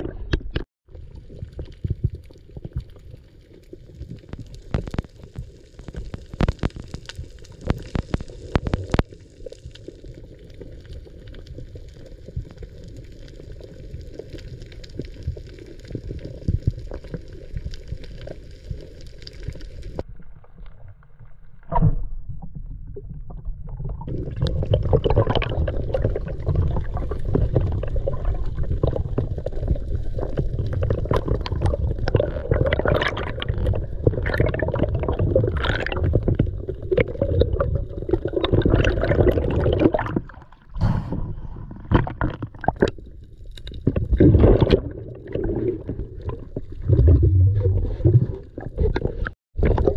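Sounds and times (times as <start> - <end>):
muffled underwater water noise: 0.0 - 49.9.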